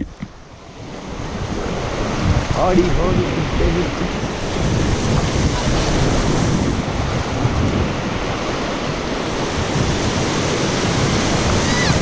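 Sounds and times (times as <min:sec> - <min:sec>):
wind buffeting microphone: 0:00.0 - 0:12.0
whitewater rushing: 0:00.8 - 0:12.0.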